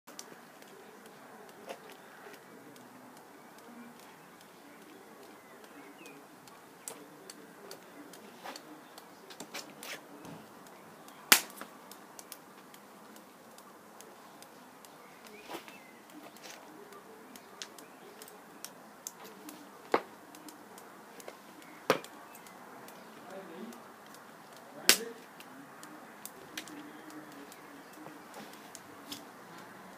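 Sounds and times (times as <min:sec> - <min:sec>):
sharp clicks and taps: 0:00.1 - 0:29.8.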